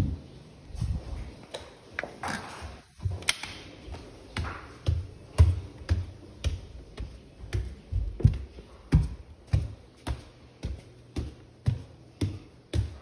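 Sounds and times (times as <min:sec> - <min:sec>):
footsteps on hard floor: 0:02.6 - 0:13.0.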